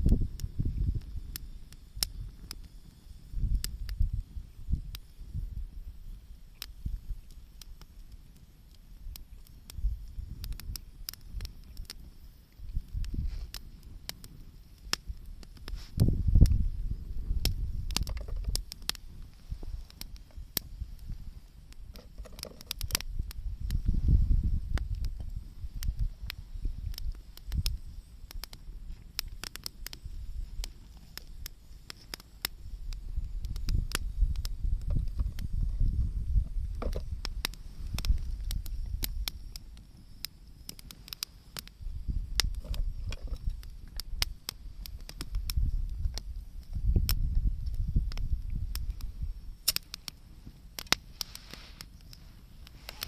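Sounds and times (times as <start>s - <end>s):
campfire crackling and popping: 0.0s - 53.0s
low rumble of fire: 0.0s - 53.0s.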